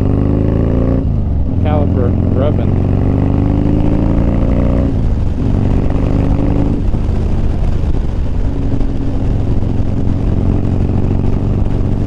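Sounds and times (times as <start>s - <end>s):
motorcycle engine running: 0.0s - 12.0s
wind rush: 0.0s - 12.0s.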